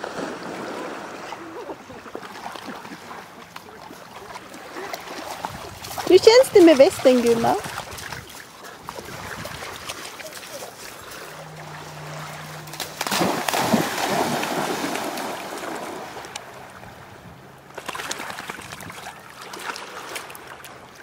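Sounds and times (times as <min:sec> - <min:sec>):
dogs splashing through shallow water: 0:00.0 - 0:21.0.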